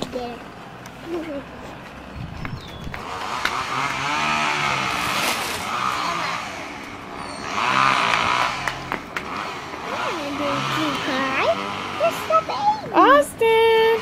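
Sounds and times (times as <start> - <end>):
passing motor vehicle engine: 0.0 - 14.0.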